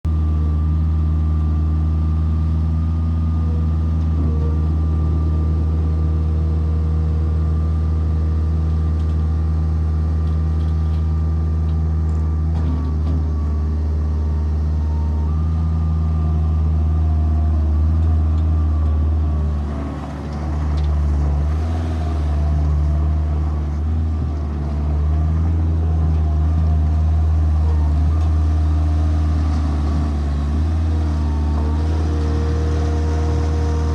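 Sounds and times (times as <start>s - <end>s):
skid steer engine running: 0.0s - 33.9s.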